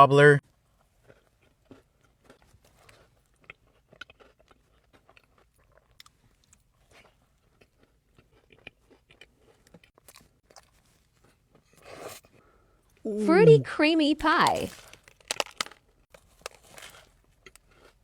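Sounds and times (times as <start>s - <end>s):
person chewing food: 0.5s - 13.0s, 14.3s - 18.0s.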